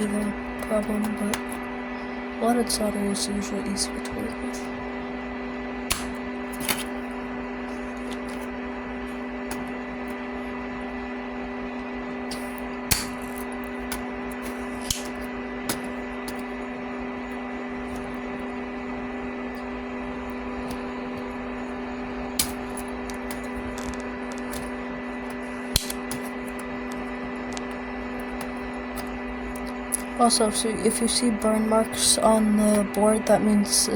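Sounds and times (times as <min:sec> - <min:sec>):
steady electrical hum: 0:00.0 - 0:33.9.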